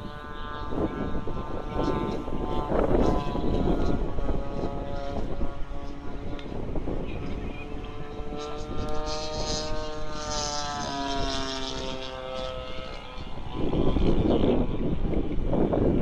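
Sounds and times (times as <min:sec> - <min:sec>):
motor droning: 0:00.0 - 0:16.0
wind buffeting microphone: 0:00.0 - 0:16.0.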